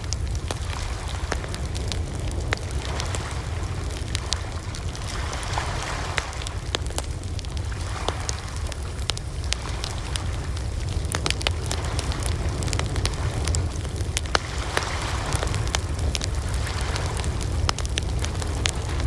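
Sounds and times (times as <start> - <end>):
sharp snaps and pops: 0.0 - 19.0
wood fire crackling: 0.0 - 19.0.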